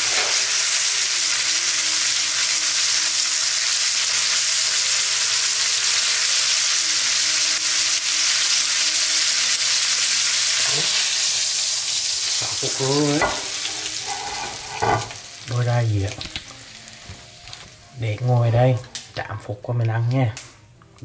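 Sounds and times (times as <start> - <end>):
steak sizzling in butter: 0.0 - 19.1.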